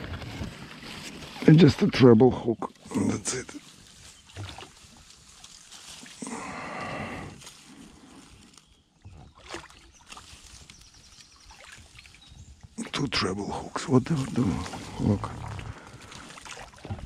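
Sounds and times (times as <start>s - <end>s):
leaves and branches rustling: 0.0s - 17.0s.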